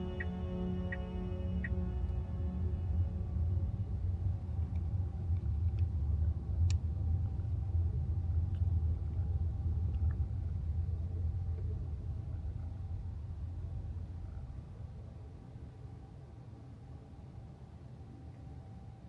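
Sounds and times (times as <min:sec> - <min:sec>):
road and tyre rumble in car cabin: 0:00.0 - 0:15.5.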